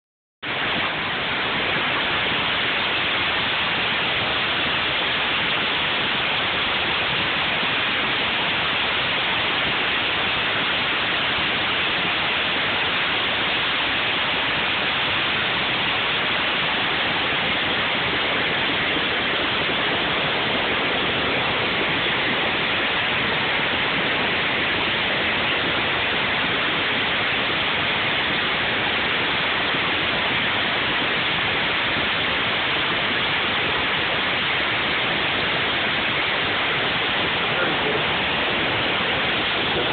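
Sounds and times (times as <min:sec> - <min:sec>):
water rushing over weir: 0:00.4 - 0:39.9.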